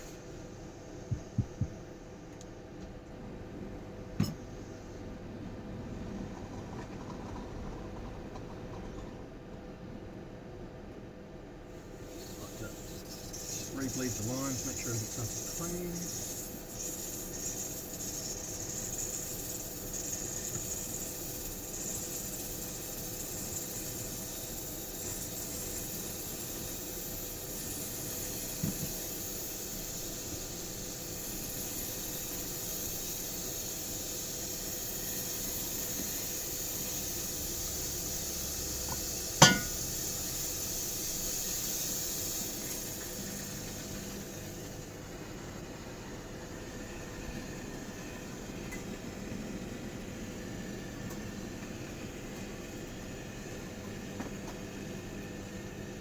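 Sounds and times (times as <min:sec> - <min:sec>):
espresso machine steam hiss: 0:00.0 - 0:01.7, 0:11.7 - 0:56.0.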